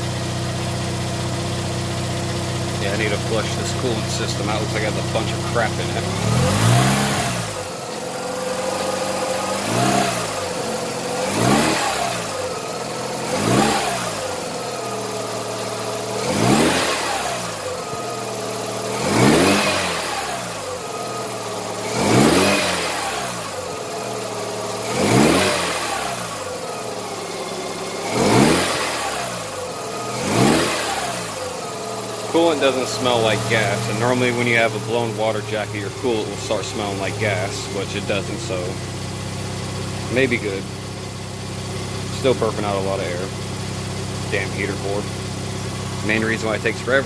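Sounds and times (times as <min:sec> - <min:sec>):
rotary engine revving: 0:00.0 - 0:47.0.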